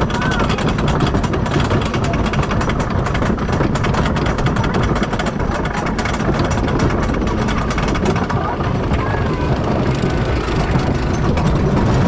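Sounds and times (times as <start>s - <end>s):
lift chain rapid clicking: 0.0s - 12.0s
low mechanical rumble: 0.0s - 12.0s.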